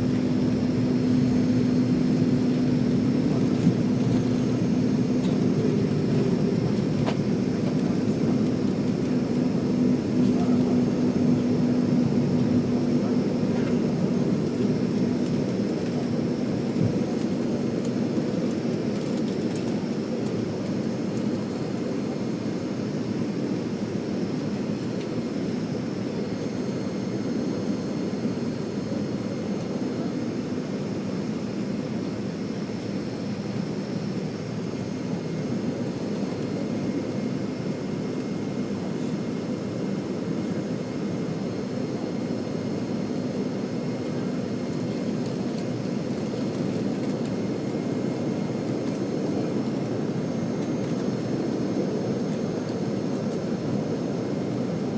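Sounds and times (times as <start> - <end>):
high fan whine: 0.0 - 54.9
jet engines rumbling: 0.0 - 54.9.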